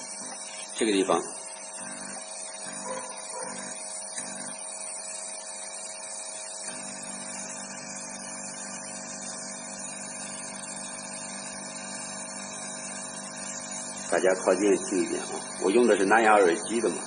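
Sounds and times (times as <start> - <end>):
vacuum pump hissing: 0.0 - 17.0.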